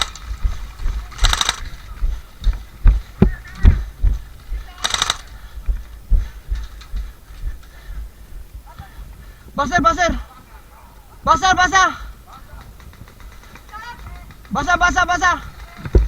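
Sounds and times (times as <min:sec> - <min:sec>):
airsoft gun bursts: 0:00.0 - 0:16.0.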